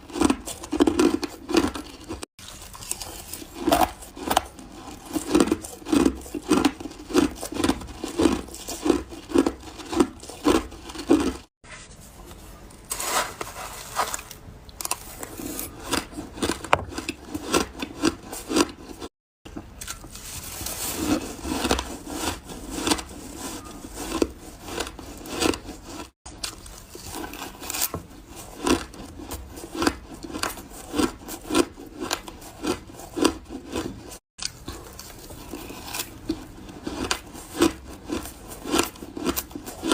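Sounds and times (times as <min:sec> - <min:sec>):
ice being chewed: 0:00.0 - 0:11.5, 0:14.1 - 0:19.1, 0:19.7 - 0:39.9.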